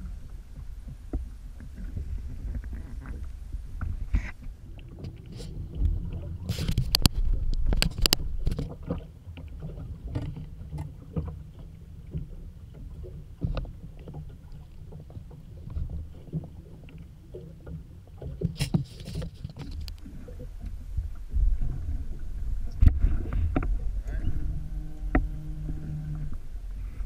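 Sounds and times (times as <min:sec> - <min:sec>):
low wind rumble on microphone: 0:00.0 - 0:27.0
water slapping against hull: 0:00.0 - 0:27.0
small knocks on boat: 0:00.8 - 0:21.8, 0:22.7 - 0:26.4.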